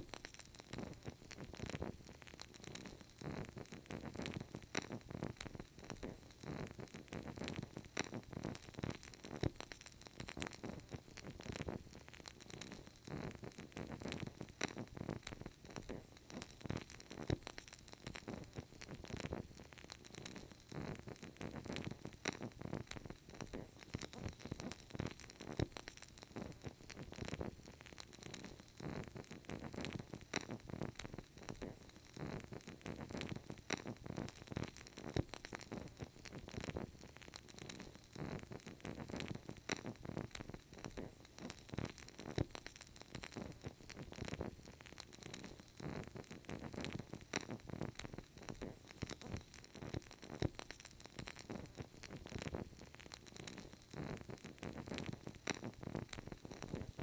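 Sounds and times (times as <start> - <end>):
candle crackling: 0.0 - 57.0.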